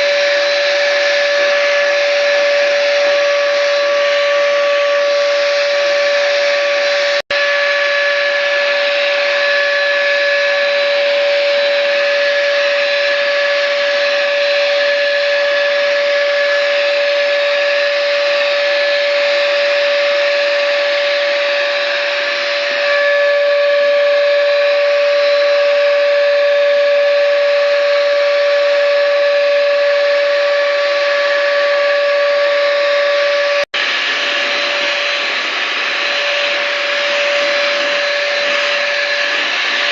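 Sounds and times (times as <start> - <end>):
electric spray gun whining: 0.0 - 39.9.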